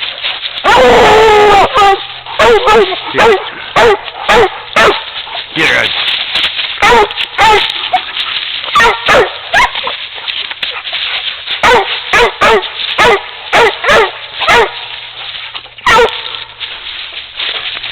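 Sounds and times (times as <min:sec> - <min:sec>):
dogs barking: 0:00.0 - 0:16.6.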